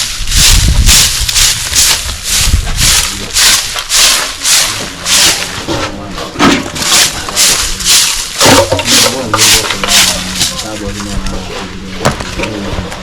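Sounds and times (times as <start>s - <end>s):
rhythmic scraping strokes: 0.0s - 13.0s.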